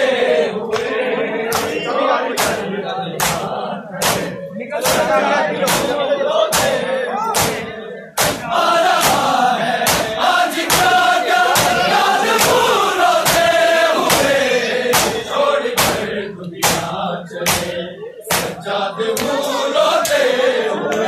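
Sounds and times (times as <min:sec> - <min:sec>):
men chanting in unison: 0:00.0 - 0:21.0
chest-beating slaps: 0:01.5 - 0:20.3.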